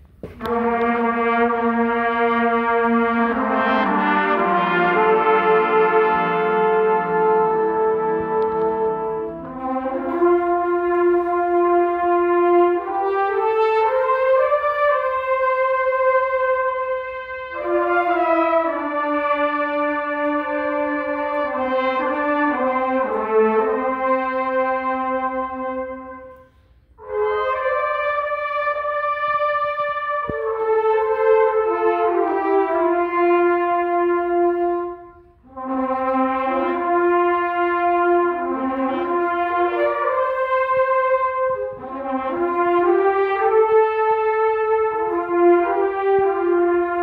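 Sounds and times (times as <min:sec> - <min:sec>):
trumpet choir playing chords: 0:00.2 - 0:47.0.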